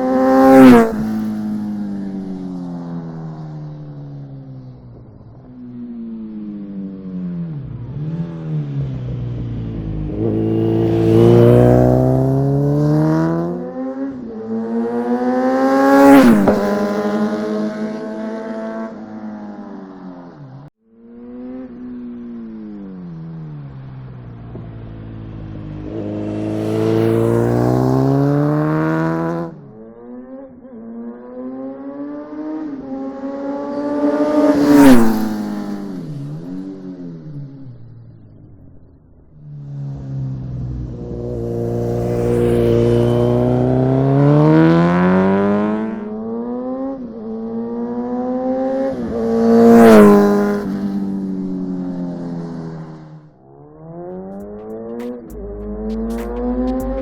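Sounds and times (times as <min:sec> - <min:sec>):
motorcycle revving past: 0:00.0 - 0:05.5, 0:07.2 - 0:20.3, 0:21.0 - 0:38.0, 0:39.3 - 0:57.0.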